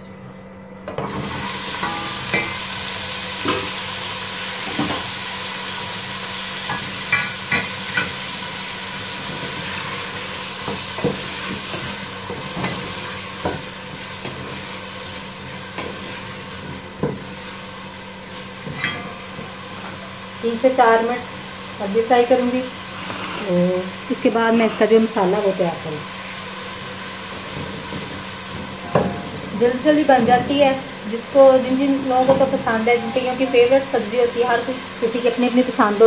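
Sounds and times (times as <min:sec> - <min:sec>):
food sizzling in hot oil: 0:01.0 - 0:36.0.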